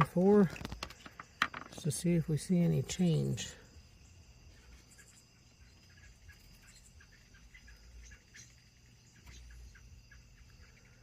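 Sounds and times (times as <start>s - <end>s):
faint insects chirping: 0.0s - 11.0s.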